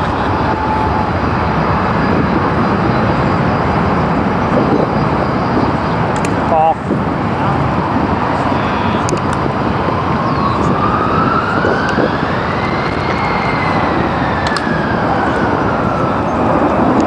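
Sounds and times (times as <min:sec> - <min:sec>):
distant siren wailing: 0:00.0 - 0:17.0
traffic noise rushing: 0:00.0 - 0:17.0.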